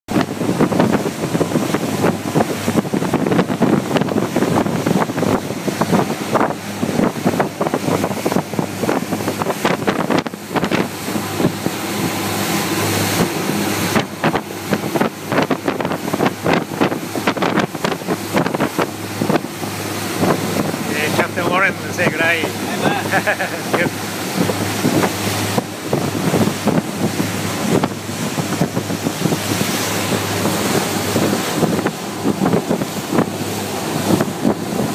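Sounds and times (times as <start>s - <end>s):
boat engine drone: 0.1s - 34.9s
rush of boat wake: 0.1s - 34.9s
wind buffeting microphone: 0.1s - 34.9s.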